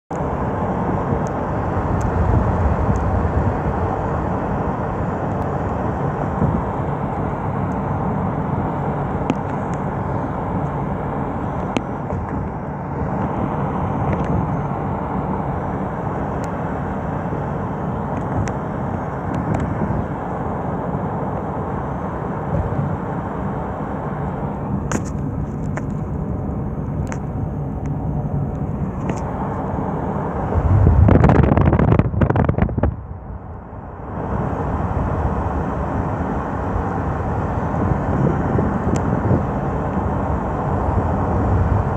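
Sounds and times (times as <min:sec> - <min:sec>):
car road and engine rumble: 0:00.1 - 0:41.9.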